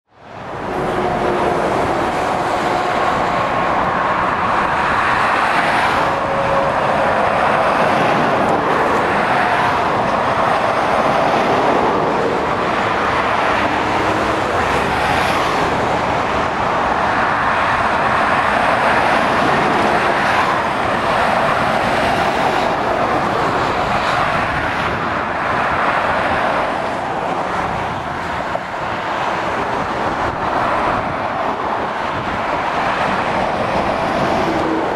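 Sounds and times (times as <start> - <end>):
motorway traffic: 0.0 - 34.9.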